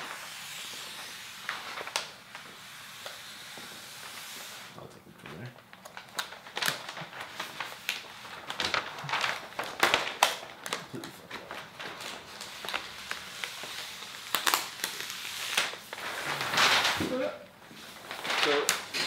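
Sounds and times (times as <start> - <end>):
plastic film crinkling: 0.0 - 19.0.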